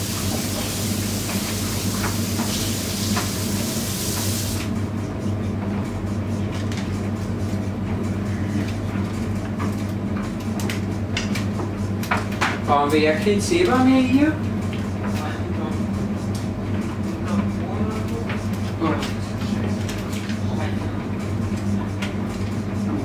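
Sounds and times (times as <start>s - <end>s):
washing machine hum: 0.0s - 23.0s.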